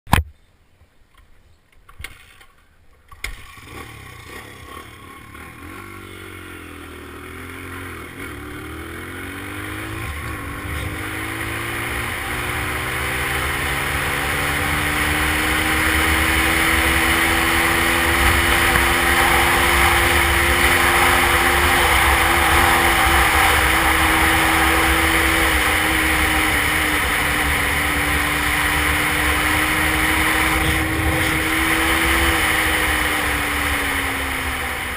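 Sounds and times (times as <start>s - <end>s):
dirt bike engine revving: 3.3s - 34.9s.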